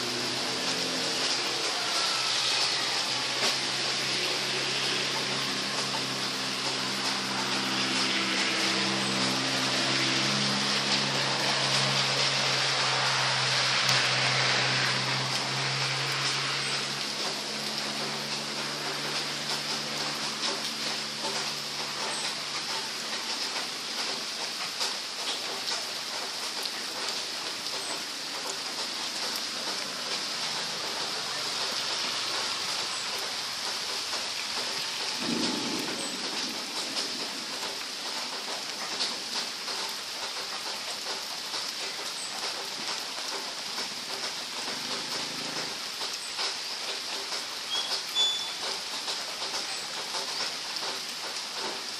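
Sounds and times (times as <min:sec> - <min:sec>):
steady rain hiss: 0:00.0 - 0:51.9
water drips: 0:00.0 - 0:51.9.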